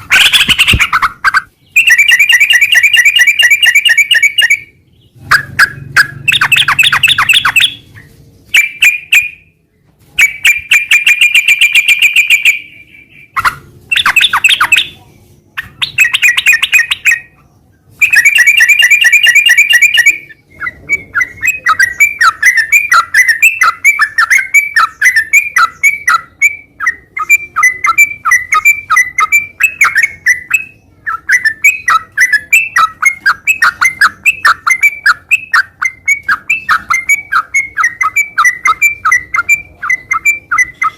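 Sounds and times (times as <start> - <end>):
bulbul singing fast notes: 0.0 - 9.6, 10.2 - 15.0, 18.0 - 40.9.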